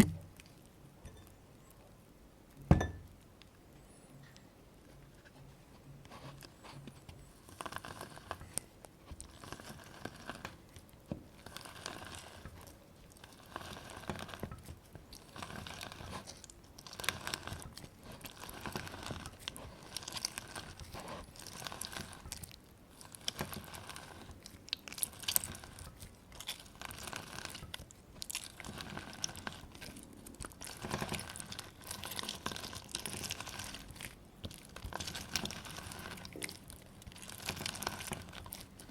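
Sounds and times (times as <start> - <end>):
lemon squeezed crackling: 7.5 - 38.9.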